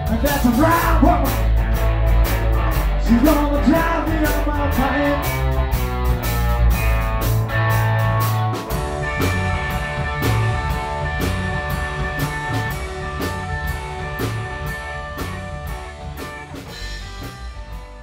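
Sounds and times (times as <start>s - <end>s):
electric guitar: 0.0s - 18.0s.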